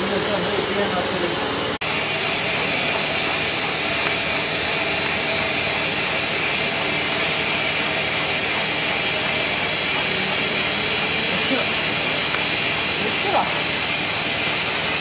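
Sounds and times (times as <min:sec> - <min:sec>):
machine running with hiss: 0:00.0 - 0:15.0.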